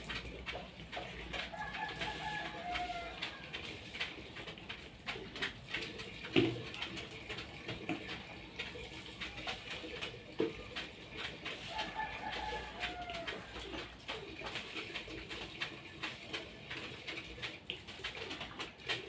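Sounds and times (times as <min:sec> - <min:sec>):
containers knocking and clattering: 0:00.0 - 0:19.0.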